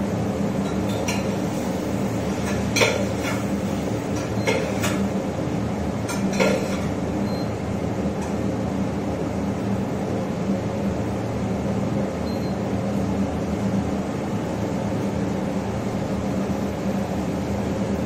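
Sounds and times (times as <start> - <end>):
exhaust fan humming: 0.0 - 18.0.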